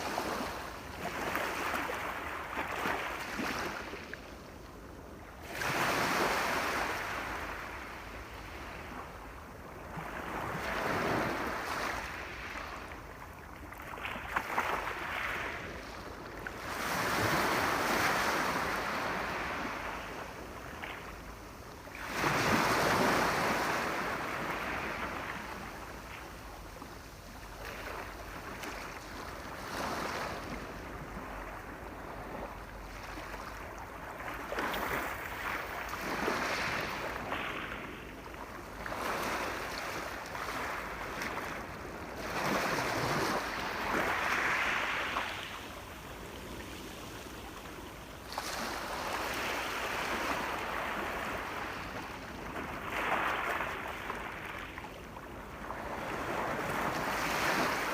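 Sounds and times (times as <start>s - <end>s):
sea waves breaking on shore: 0.0s - 4.4s, 5.4s - 57.9s.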